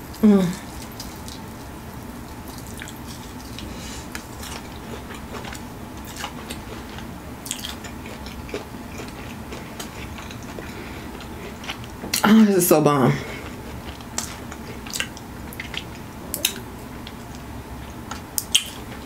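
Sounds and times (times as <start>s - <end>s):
biting and chewing: 0.7s - 12.2s, 13.3s - 17.4s.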